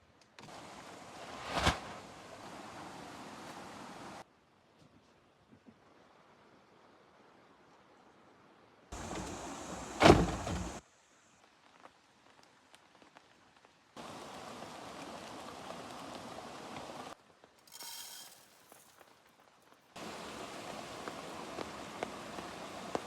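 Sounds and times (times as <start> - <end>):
rain-like hiss: 0.0 - 23.0.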